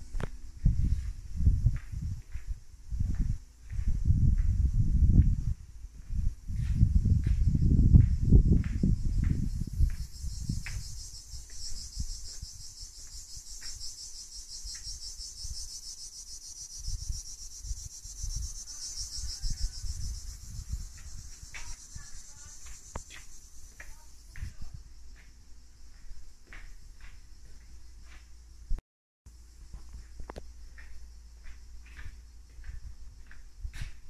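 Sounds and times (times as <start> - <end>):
cicadas chirring: 6.2 - 34.0.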